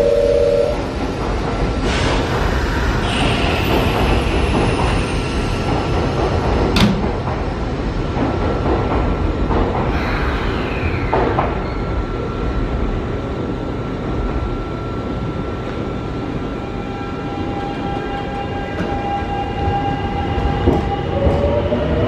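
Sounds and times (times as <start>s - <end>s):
train sliding doors closing: 0.5s - 14.1s, 15.6s - 22.0s.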